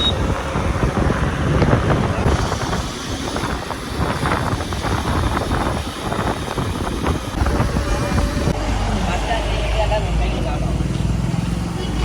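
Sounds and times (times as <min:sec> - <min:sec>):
vehicle rumble on road: 0:00.0 - 0:12.0
wind buffeting microphone: 0:00.0 - 0:12.0.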